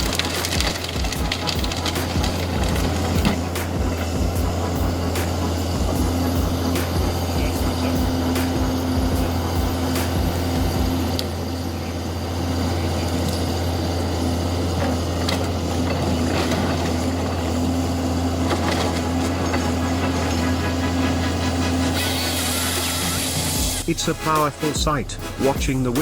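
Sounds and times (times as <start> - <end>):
plow blade rushing through snow: 0.0 - 26.0
truck engine droning: 0.0 - 26.0.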